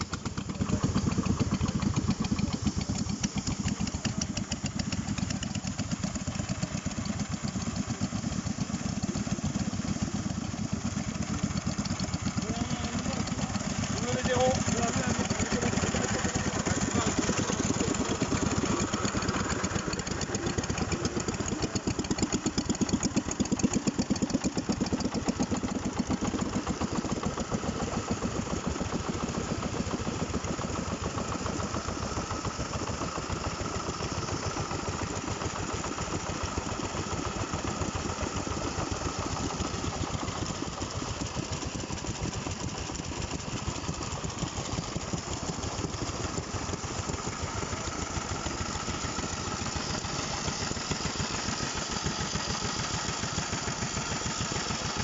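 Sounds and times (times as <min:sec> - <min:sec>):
old engine running: 0:00.0 - 0:55.0.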